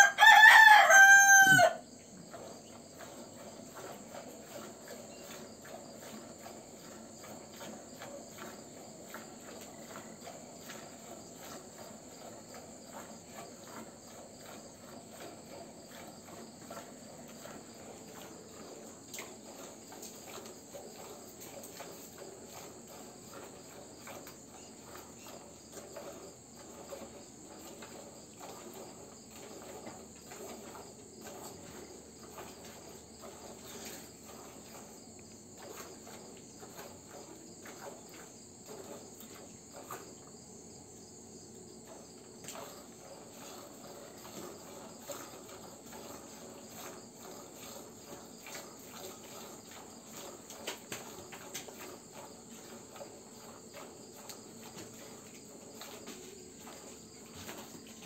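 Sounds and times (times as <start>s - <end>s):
crickets chirping: 0.0s - 58.0s
milk squirting into bucket: 2.3s - 40.3s, 41.8s - 58.0s.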